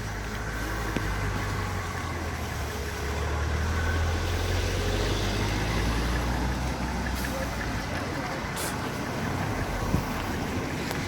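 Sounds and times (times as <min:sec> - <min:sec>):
coach engine rumbling: 0:00.0 - 0:11.0.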